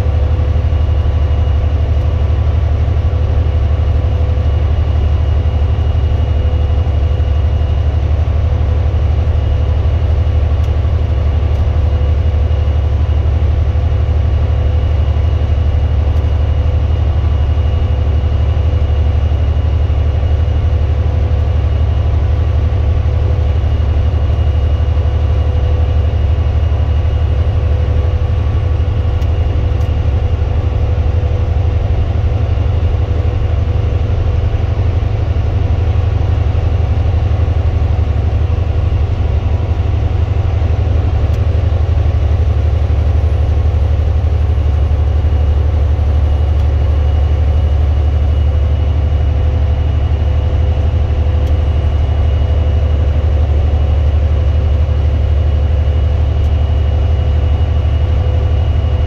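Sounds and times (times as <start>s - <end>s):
truck diesel engine drone: 0.0s - 59.0s.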